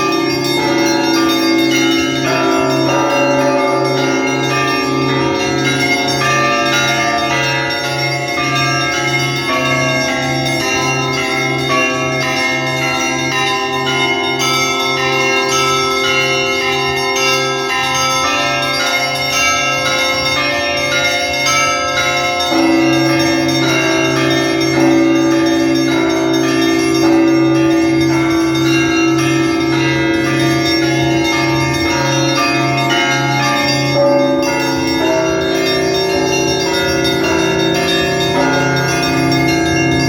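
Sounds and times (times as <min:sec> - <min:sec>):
low church bell beating: 0:00.0 - 0:40.0
smaller bells pealing: 0:00.0 - 0:40.0
stronger middle bell tone: 0:00.0 - 0:40.0.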